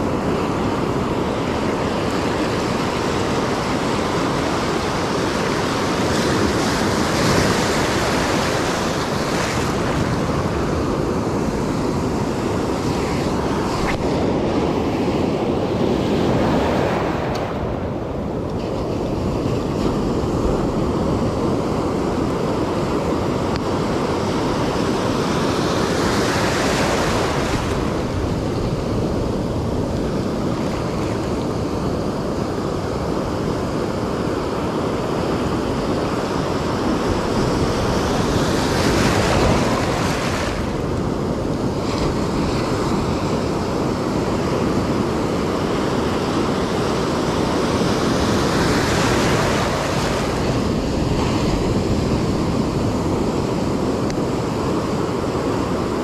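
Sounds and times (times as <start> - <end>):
ocean surf breaking: 0.0 - 56.0
wind rumbling on microphone: 0.0 - 56.0.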